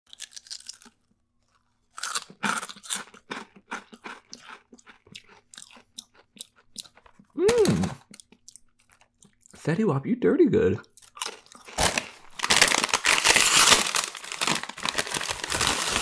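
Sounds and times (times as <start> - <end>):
potato chips crunching: 0.1 - 9.6, 10.8 - 16.0.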